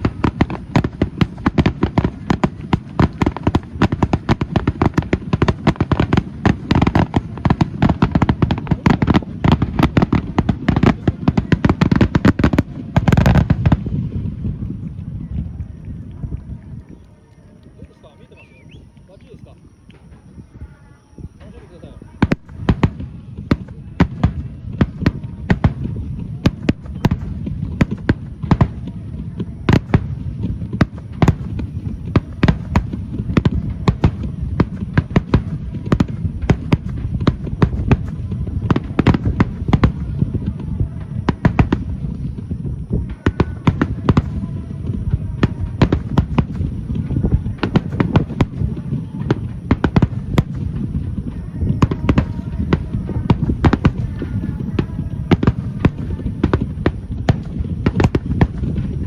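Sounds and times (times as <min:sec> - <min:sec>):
fireworks bursting with sharp bangs: 0:00.0 - 0:59.0.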